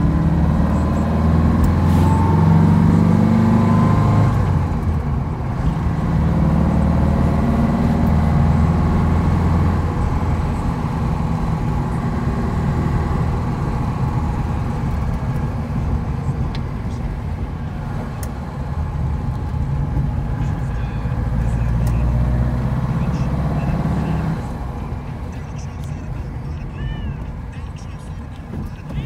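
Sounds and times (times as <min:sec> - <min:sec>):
car engine pulling: 0:00.0 - 0:29.0.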